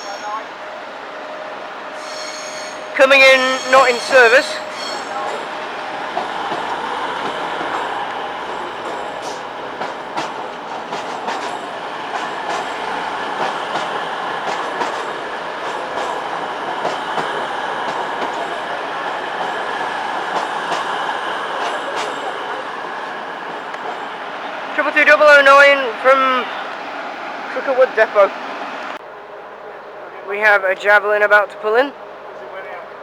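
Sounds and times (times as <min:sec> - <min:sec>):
diesel train running: 0:00.0 - 0:33.0.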